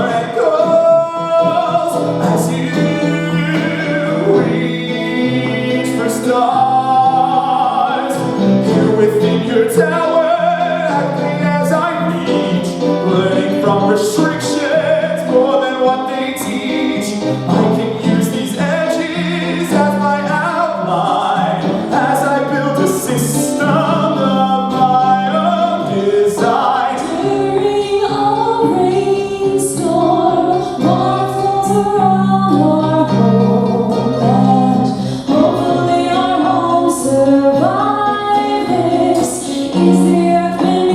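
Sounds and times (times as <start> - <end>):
instrumental accompaniment: 0.0 - 40.9
person singing: 0.0 - 40.9.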